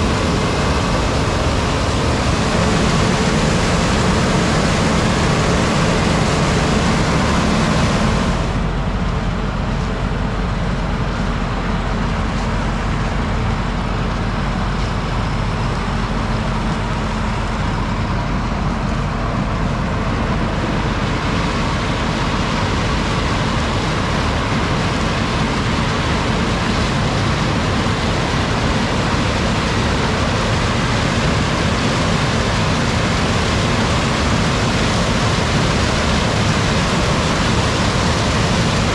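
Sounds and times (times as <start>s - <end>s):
harvest machinery running: 0.0s - 38.9s.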